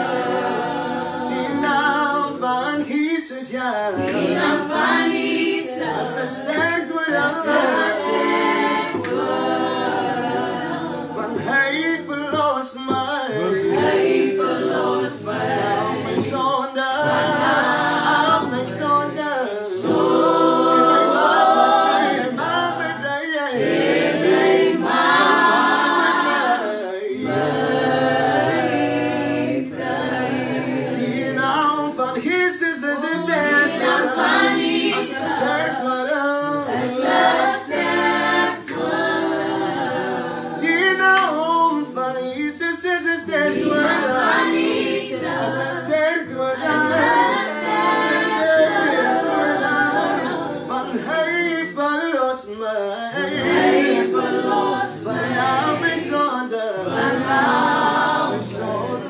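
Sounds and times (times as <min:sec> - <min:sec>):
people singing gospel song: 0:00.0 - 0:59.0.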